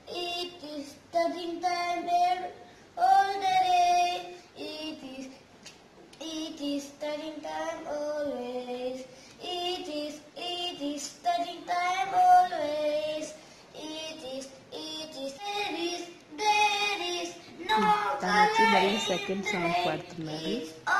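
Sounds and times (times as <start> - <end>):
boy singing: 0.1 - 5.3, 6.2 - 20.9.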